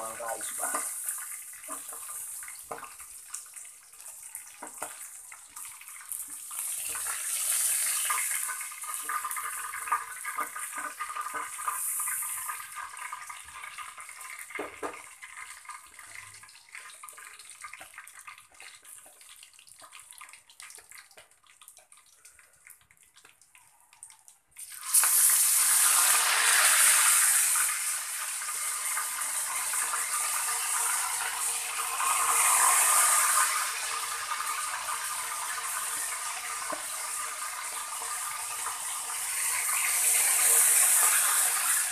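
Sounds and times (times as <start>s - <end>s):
meat sizzling in hot oil: 0.0s - 21.2s, 24.6s - 41.9s.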